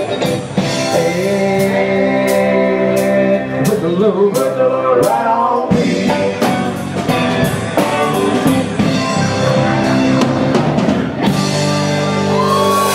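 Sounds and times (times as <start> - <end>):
drum kit: 0.0 - 12.9
electric bass: 0.0 - 12.9
electric guitar: 0.0 - 12.9.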